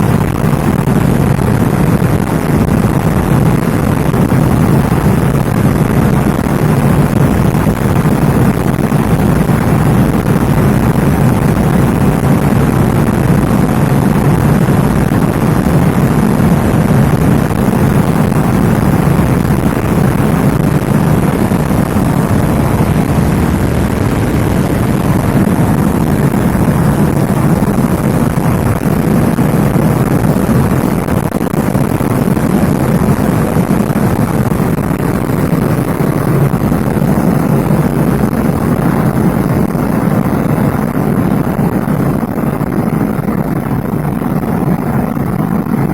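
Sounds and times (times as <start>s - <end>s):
car engine running: 0.0s - 45.9s
road noise inside cabin: 0.0s - 45.9s.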